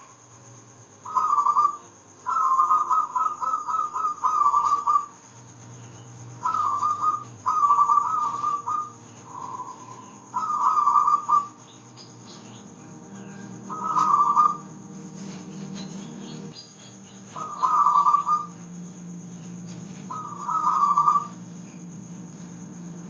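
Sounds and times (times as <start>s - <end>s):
dove cooing: 1.0s - 22.3s.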